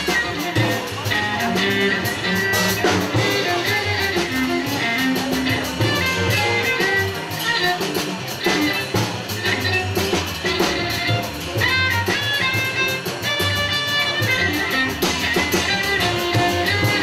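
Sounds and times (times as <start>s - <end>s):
bass: 0.0s - 17.0s
cymbal and drum strokes: 0.0s - 17.0s.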